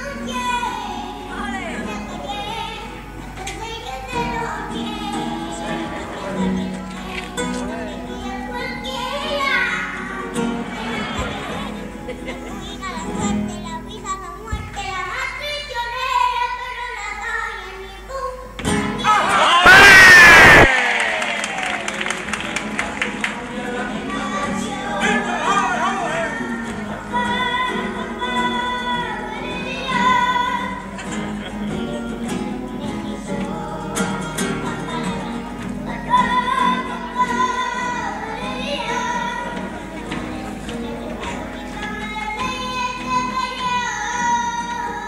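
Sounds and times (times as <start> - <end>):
child singing: 0.0 - 18.6, 23.7 - 31.2, 31.9 - 45.0
guitar accompaniment: 0.0 - 45.0.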